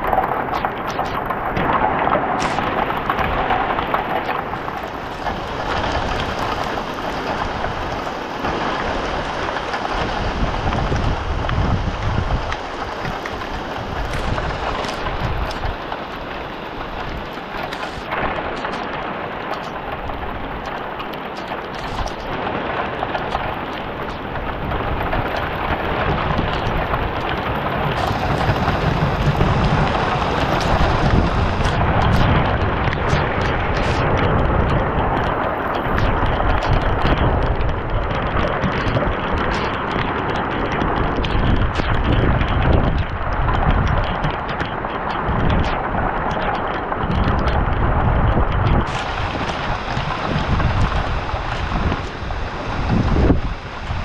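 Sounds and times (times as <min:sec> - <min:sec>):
steady rain falling: 0:00.0 - 0:54.0
thunder rumbling: 0:00.0 - 0:54.0.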